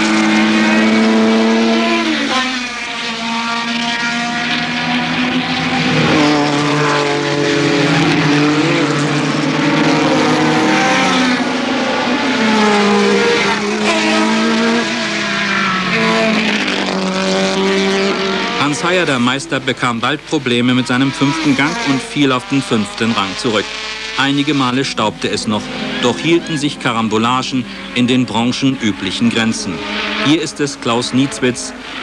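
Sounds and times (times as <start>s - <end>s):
racing cars passing: 0.0s - 32.0s.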